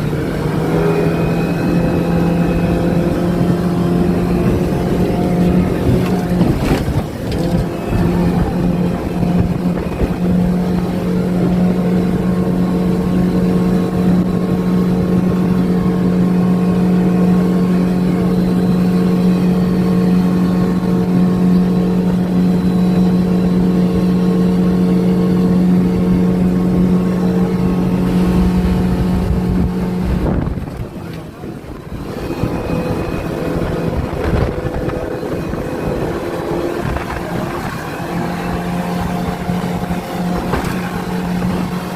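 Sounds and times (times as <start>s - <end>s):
motorboat engine drone: 0.0s - 41.9s
wind and water rushing: 0.0s - 41.9s.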